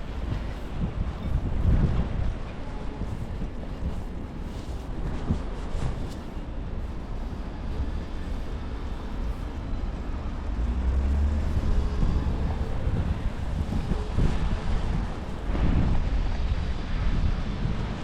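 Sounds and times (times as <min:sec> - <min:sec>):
street traffic: 0:00.0 - 0:18.0
vehicle engine hum: 0:00.0 - 0:18.0
wind buffeting microphone: 0:00.0 - 0:18.0.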